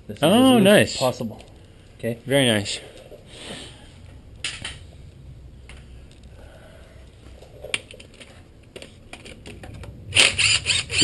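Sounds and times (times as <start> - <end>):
low steady background noise: 0.0 - 11.0.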